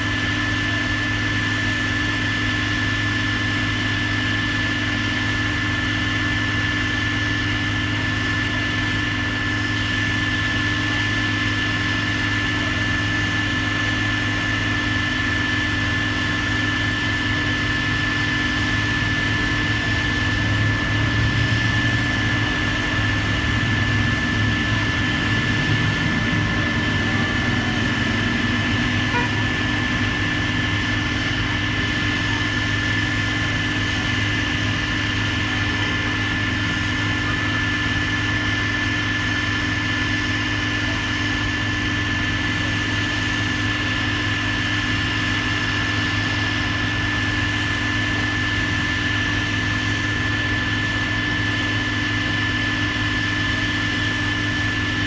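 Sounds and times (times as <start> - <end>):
high whine: 0.0 - 39.8, 46.2 - 55.0
diesel engine running: 0.0 - 55.0.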